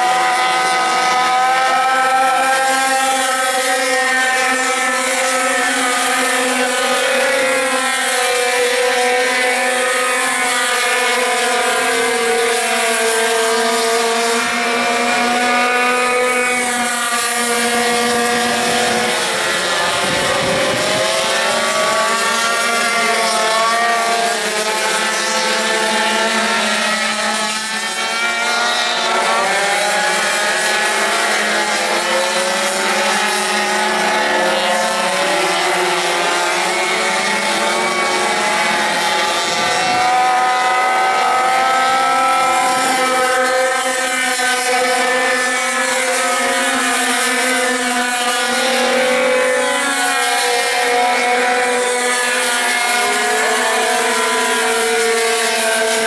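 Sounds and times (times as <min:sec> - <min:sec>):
small high-revving engines whining: 0:00.0 - 0:56.0.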